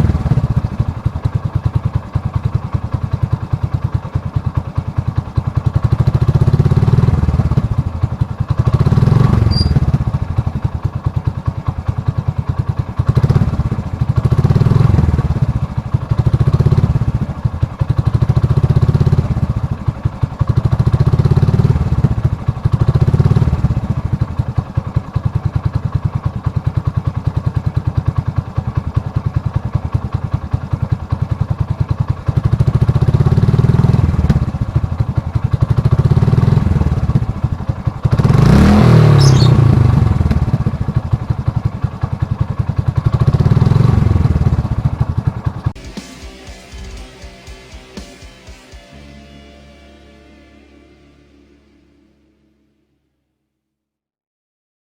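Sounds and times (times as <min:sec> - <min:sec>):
engine running with rapid pulse: 0:00.0 - 0:52.9.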